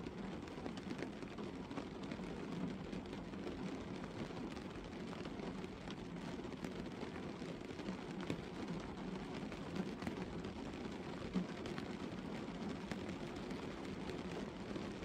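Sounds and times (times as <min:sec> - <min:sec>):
light rain on a car roof: 0:00.0 - 0:15.0.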